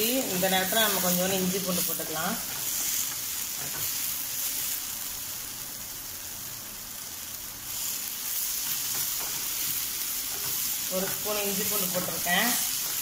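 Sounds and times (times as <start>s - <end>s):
onions sizzling in hot oil: 0.0s - 13.0s
spatula stirring in pan: 0.1s - 5.0s, 7.3s - 13.0s.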